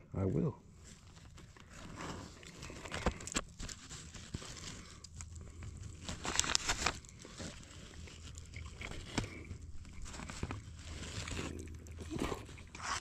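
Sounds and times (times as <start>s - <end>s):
paper rustling: 0.8s - 13.0s
charred fish skin crackling: 1.0s - 13.0s.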